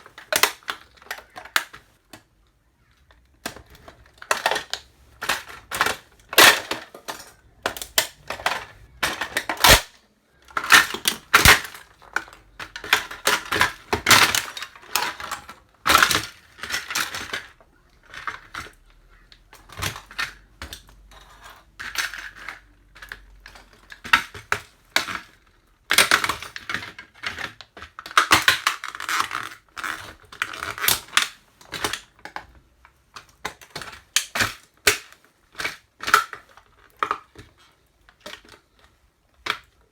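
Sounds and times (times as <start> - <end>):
plastic cracking and snapping: 0.0 - 39.9.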